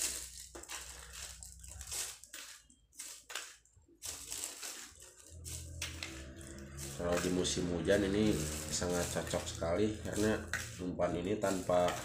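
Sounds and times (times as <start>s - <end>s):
bait grains crunching in plastic bag: 0.0s - 12.0s.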